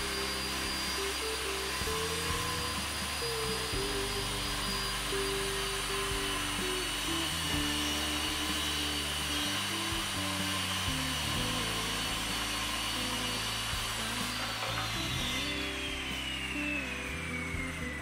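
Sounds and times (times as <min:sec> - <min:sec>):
circular saw cutting wood: 0:00.0 - 0:18.0
guitar music: 0:00.0 - 0:18.0.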